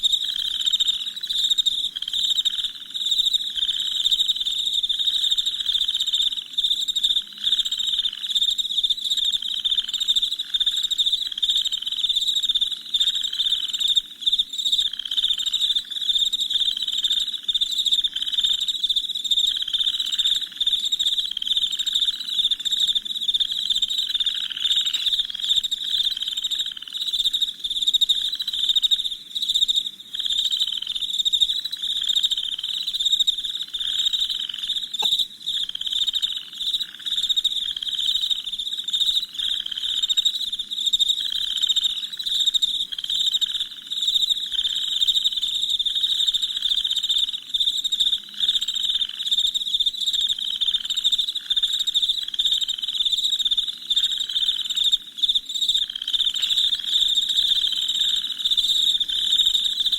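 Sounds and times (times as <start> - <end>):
crickets chirping trill: 0.0 - 59.9
lower pulsing insect call: 0.0 - 59.9.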